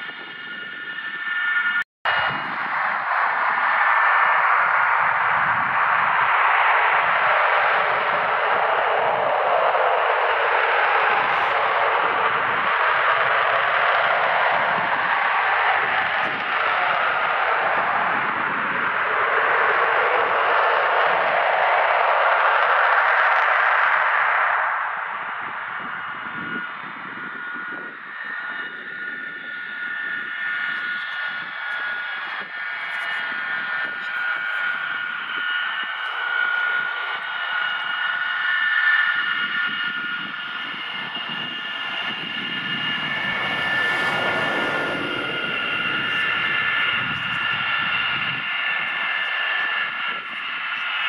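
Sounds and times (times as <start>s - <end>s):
jet engines whining and roaring: 0.0s - 51.0s.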